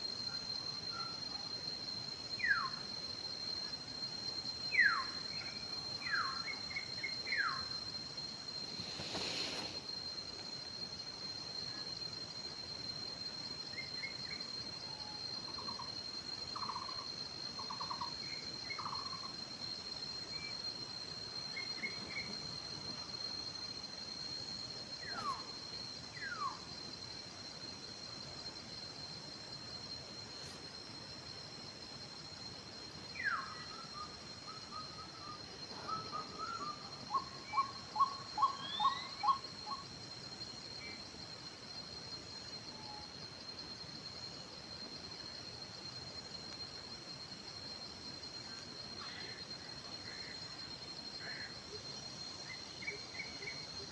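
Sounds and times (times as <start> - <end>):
high-pitched insect drone: 0.3 - 53.9.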